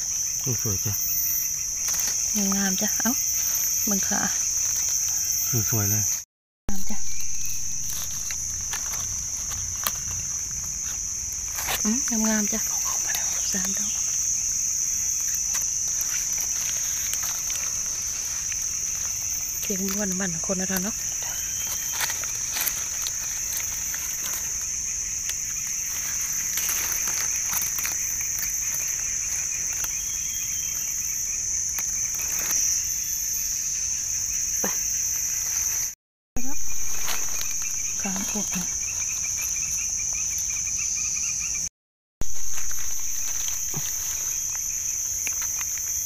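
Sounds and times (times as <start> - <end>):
high-pitched insect chorus: 0.0 - 46.0
insect trilling in pulsing rhythm: 0.0 - 46.0
rustling leaf litter: 1.6 - 6.1, 6.7 - 33.3, 35.2 - 40.8, 42.2 - 46.0.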